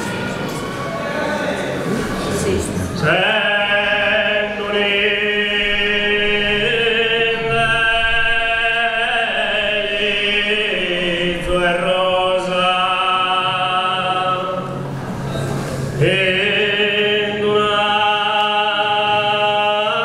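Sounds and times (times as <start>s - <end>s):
male polyphonic singing: 3.0s - 15.0s, 15.9s - 20.0s.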